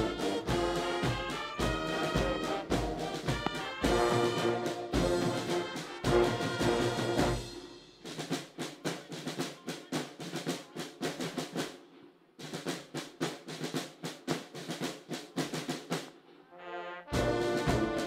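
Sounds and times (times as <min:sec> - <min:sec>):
snare drums beating march cadence: 0:00.0 - 0:18.0.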